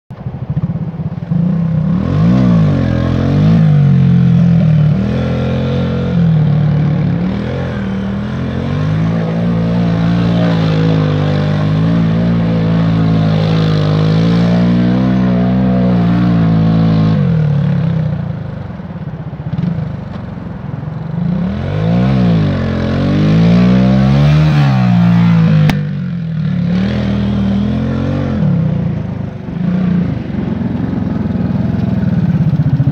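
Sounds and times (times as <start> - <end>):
quad bike engine revving: 0.5 - 18.7, 21.1 - 32.9.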